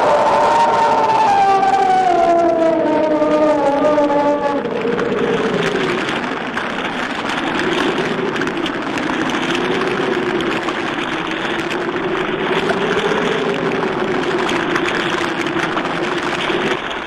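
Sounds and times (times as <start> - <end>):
wind howling: 0.0 - 17.0.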